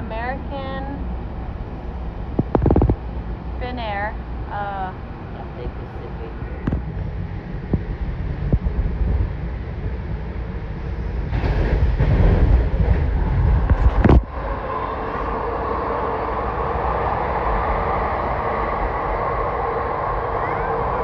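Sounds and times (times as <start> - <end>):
train rumbling: 0.0 - 21.0
train running whine: 0.0 - 21.0.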